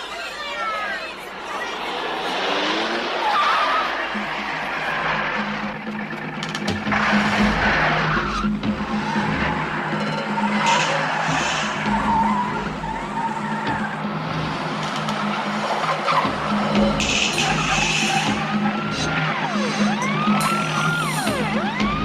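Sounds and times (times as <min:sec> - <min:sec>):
car engines racing: 0:00.0 - 0:22.0
tyres squealing: 0:00.0 - 0:22.0.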